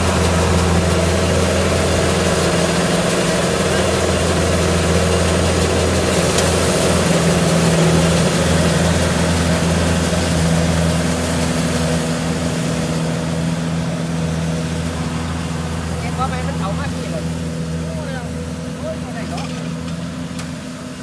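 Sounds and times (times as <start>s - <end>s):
diesel engine running steadily: 0.0s - 21.0s.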